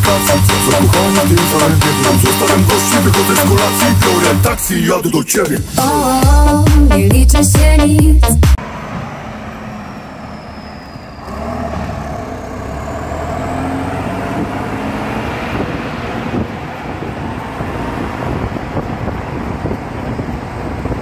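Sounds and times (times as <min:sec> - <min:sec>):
tractor diesel engine under load: 0:00.0 - 0:06.3, 0:08.6 - 0:21.0.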